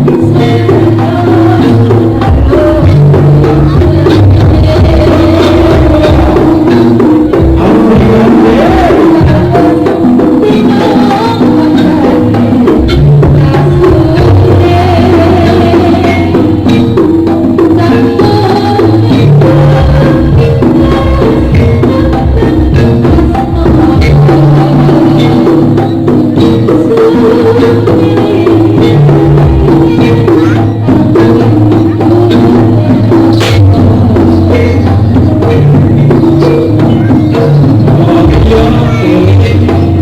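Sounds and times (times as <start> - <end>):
drums: 0.0 - 40.0
pitched metal percussion: 0.0 - 40.0.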